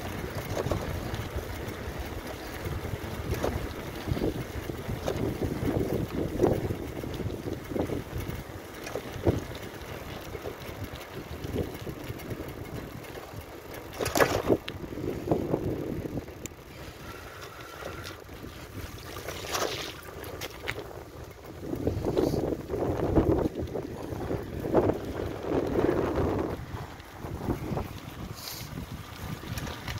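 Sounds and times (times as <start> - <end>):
bicycle jolt: 0.0 - 29.9
bicycle rolling on pavement: 0.0 - 29.9
wind buffeting microphone: 0.0 - 29.9.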